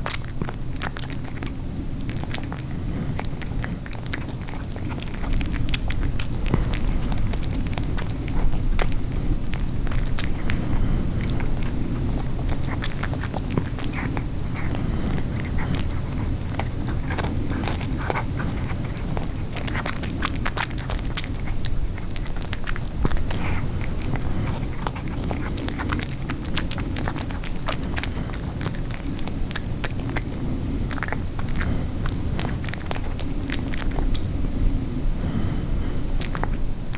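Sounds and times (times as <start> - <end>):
cat chewing bones: 0.0 - 36.9
steady low hum: 0.0 - 36.9.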